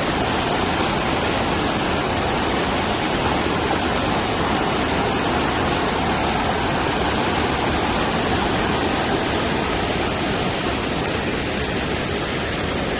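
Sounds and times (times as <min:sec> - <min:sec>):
rain: 0:00.0 - 0:12.9
stream rushing: 0:00.0 - 0:12.9.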